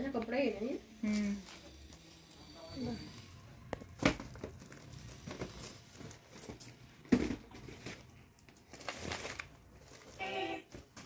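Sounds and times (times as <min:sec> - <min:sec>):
gift packaging crinkling: 0:01.1 - 0:11.0.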